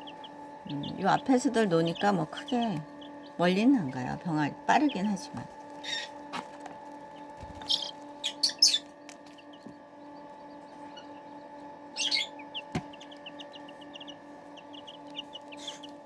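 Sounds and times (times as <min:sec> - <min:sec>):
chicks peeping: 0:00.0 - 0:16.0
electrical hum: 0:00.0 - 0:16.0.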